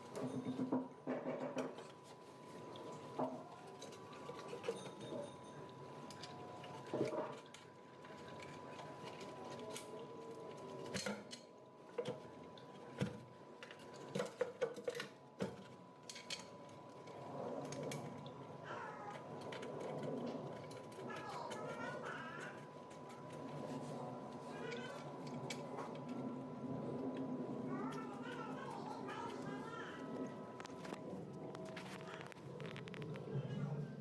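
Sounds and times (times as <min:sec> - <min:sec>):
faint high hum: 0:00.0 - 0:34.0.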